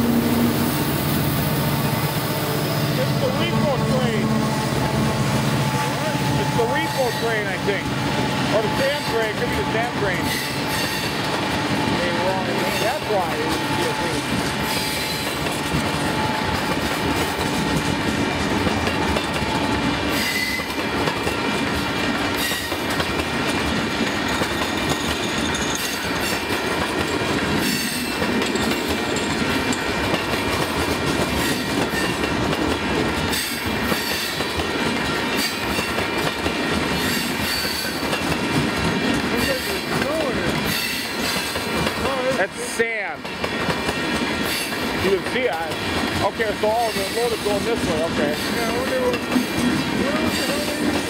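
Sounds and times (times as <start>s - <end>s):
steel wheels rolling on rail: 0.0s - 51.0s.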